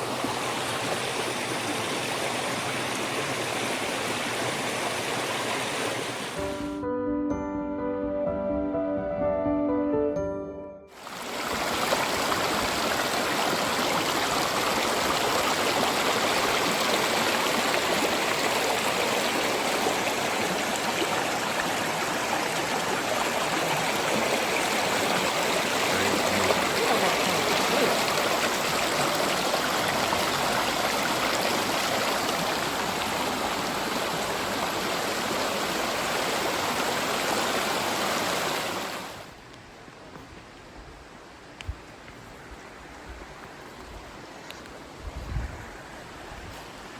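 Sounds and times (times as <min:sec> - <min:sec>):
stream water rushing: 0:00.0 - 0:06.7, 0:10.9 - 0:46.9.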